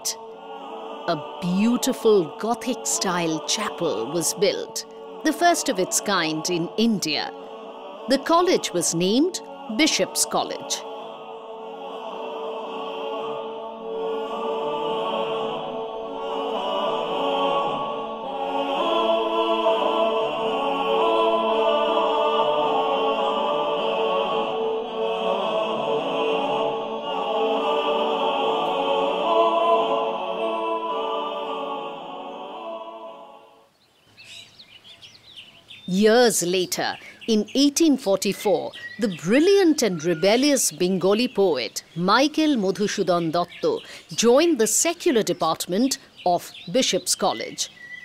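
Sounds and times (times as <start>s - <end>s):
voices singing chant-like chords: 0.0s - 48.0s.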